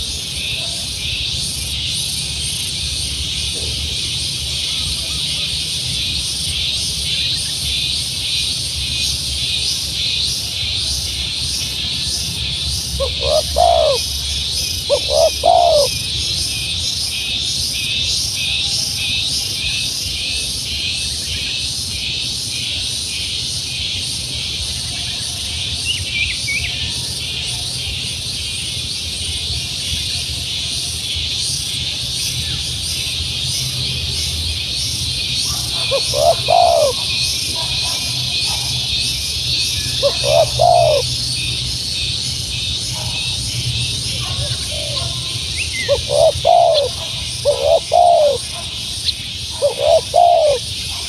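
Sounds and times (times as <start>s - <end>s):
insect chorus buzzing: 0.0s - 51.0s.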